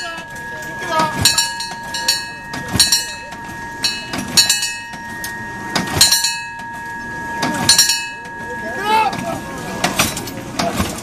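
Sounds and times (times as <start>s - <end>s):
hand pump metallic clanking: 0.0s - 11.0s.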